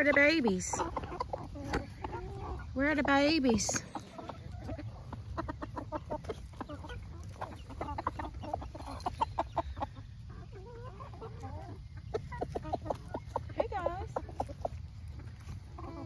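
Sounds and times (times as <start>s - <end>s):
chickens clucking: 0.0s - 16.0s
chickens pecking cabbage leaves: 0.0s - 16.0s.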